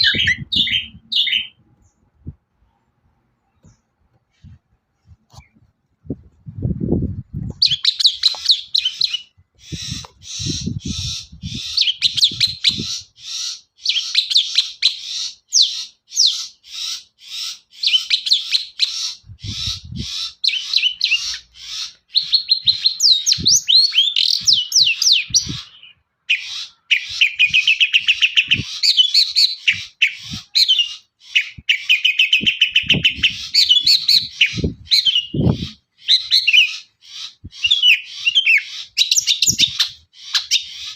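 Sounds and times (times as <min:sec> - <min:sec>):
bird song with chattering and whistles: 0:00.0 - 0:02.4, 0:07.5 - 0:40.9.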